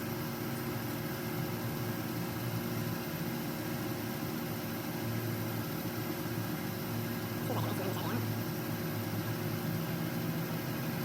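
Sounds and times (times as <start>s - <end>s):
steady low hum with hiss: 0.0s - 11.0s.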